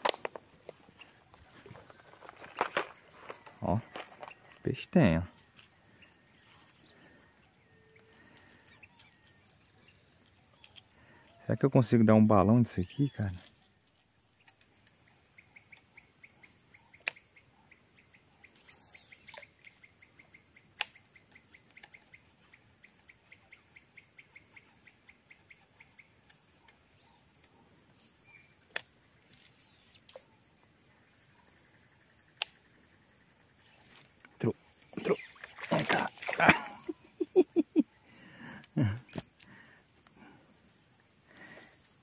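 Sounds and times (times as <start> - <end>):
crickets buzzing and chirping: 0.0 - 42.0.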